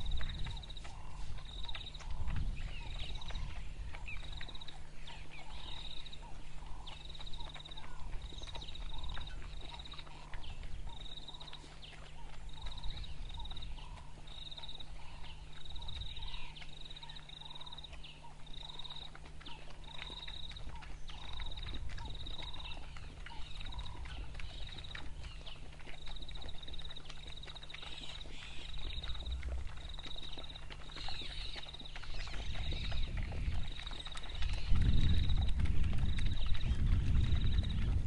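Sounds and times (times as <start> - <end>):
pups lapping water: 0.0 - 38.0.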